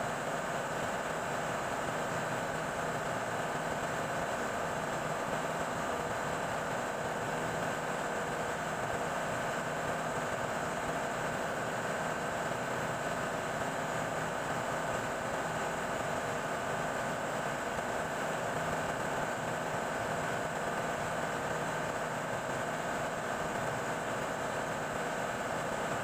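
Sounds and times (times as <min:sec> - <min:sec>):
engine-room machinery drone: 0:00.0 - 0:26.0.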